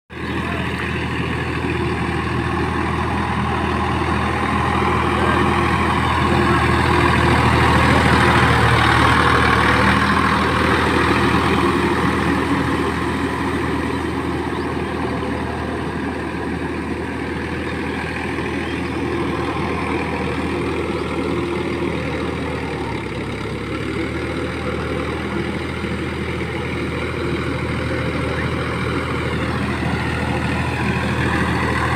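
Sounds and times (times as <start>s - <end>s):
tractor engine running: 0.1s - 31.9s.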